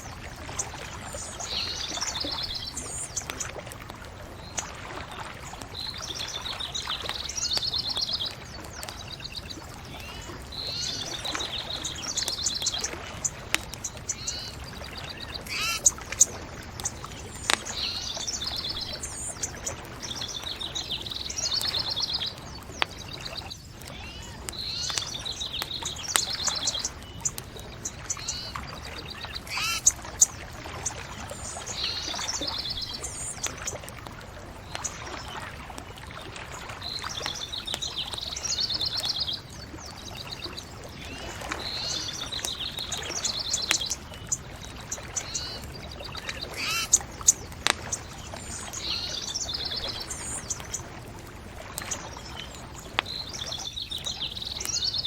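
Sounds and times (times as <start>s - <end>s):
birds singing trills: 0.0s - 55.0s
bonfire crackling: 0.0s - 55.0s.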